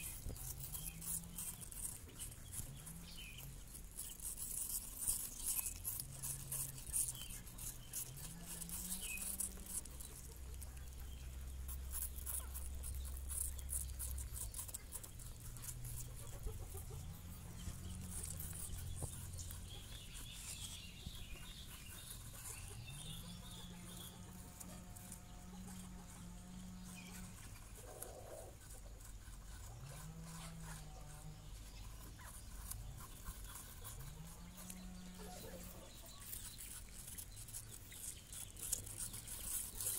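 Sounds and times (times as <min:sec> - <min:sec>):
rabbits gnawing apple: 0:00.0 - 0:39.9.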